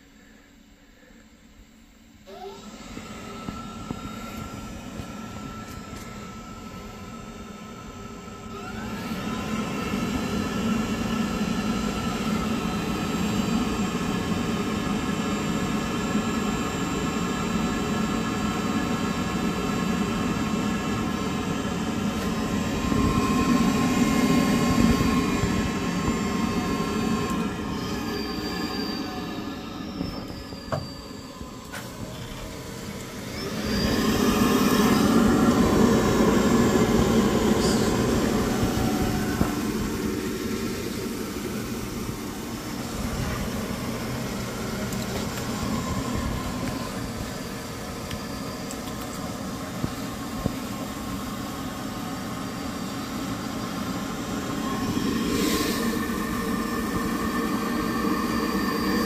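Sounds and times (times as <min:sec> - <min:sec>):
water heater whirring and whining: 0:00.0 - 0:59.0.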